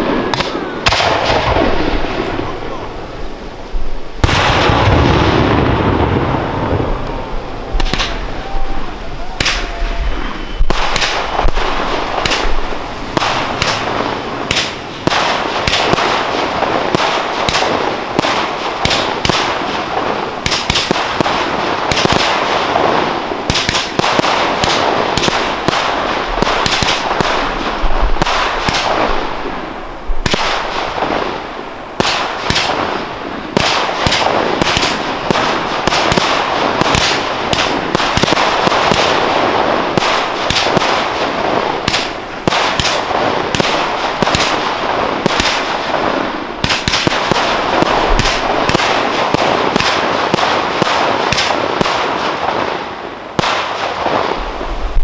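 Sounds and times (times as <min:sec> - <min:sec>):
steady rushing noise: 0:00.0 - 0:53.4, 0:54.3 - 0:55.0
fireworks bursting: 0:00.0 - 0:55.0.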